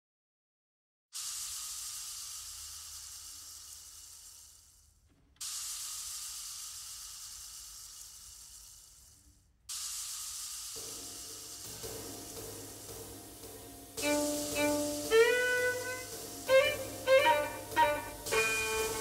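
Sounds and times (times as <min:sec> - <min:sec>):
fizzing hiss: 0:01.2 - 0:19.0.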